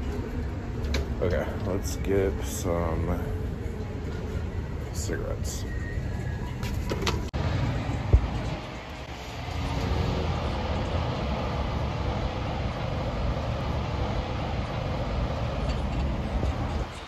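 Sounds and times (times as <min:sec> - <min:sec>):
heavy street traffic rumble: 0:00.0 - 0:17.0.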